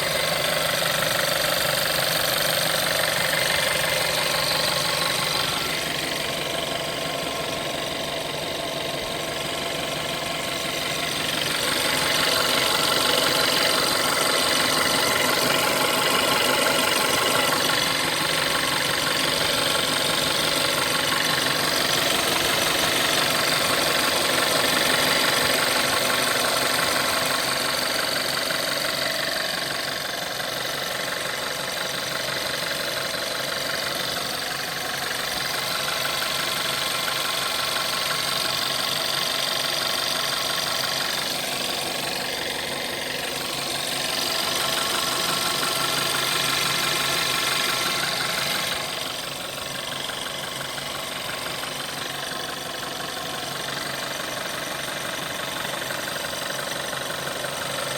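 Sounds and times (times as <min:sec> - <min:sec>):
petrol engine idling: 0:00.0 - 0:57.9.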